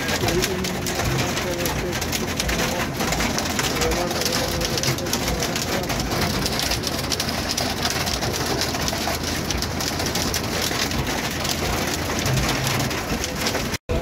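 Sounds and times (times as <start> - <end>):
heavy rain on vehicle roof: 0.0 - 14.0.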